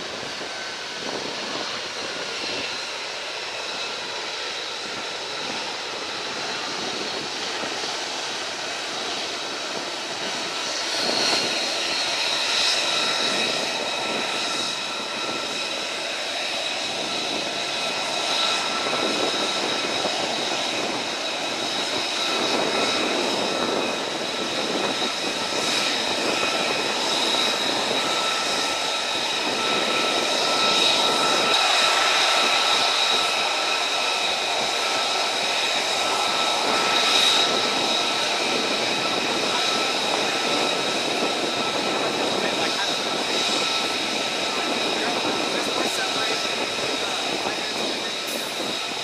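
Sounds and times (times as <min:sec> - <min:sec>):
jet engines taxiing: 0:00.0 - 0:49.0.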